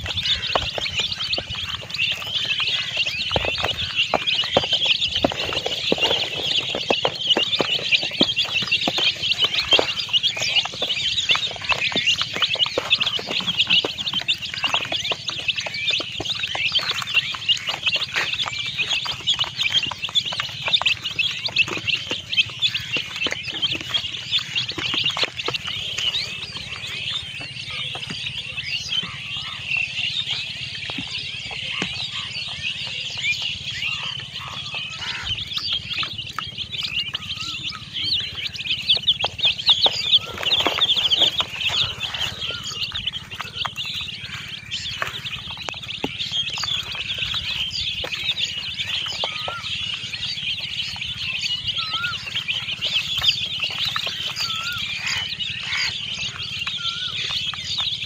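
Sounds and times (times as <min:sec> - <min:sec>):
baby chicks peeping: 0:00.0 - 0:58.0.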